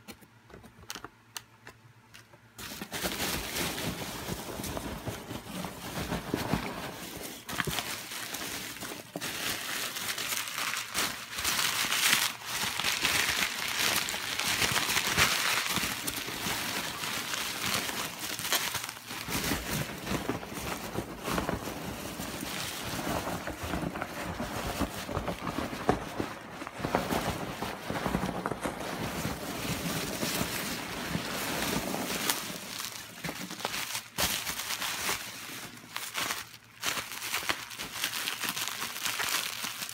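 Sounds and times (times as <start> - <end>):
packing material rustling and crinkling: 2.5 - 39.9.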